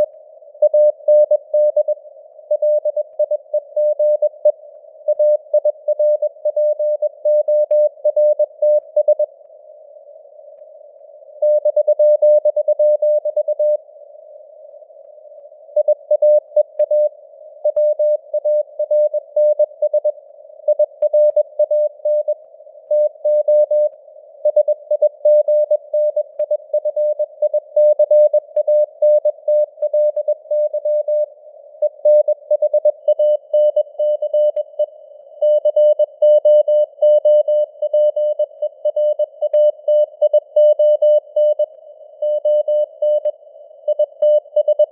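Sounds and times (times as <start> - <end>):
faint radio noise hiss: 0.0 - 44.9.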